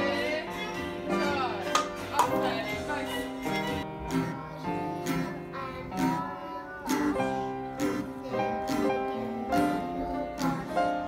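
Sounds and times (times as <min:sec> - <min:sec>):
acoustic guitar strumming: 0:00.0 - 0:11.0
person singing: 0:00.0 - 0:11.0.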